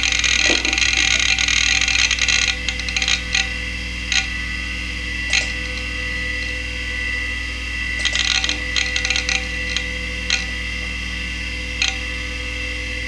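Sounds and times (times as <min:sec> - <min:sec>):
hard drive seek clicks: 0:00.0 - 0:06.6, 0:07.9 - 0:12.4
hard drive spinning whine: 0:00.0 - 0:13.0.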